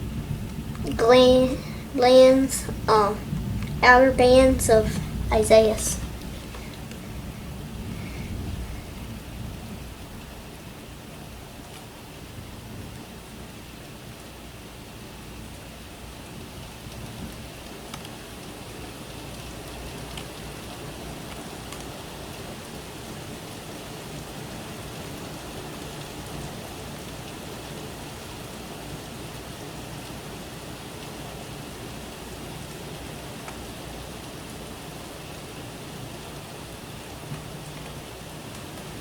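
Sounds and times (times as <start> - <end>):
steady rain pattering: 0.0 - 39.0.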